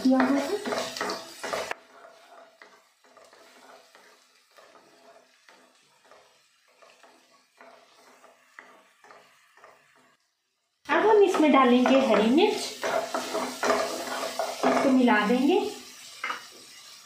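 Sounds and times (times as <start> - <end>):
light sizzle: 0.0 - 17.0
wooden spoon stirring in pan: 0.0 - 17.0.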